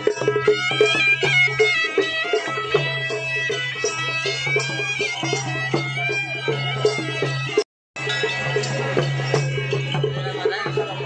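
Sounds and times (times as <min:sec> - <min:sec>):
hand drum beat: 0:00.0 - 0:11.0
reedy wind instrument melody: 0:00.0 - 0:11.0.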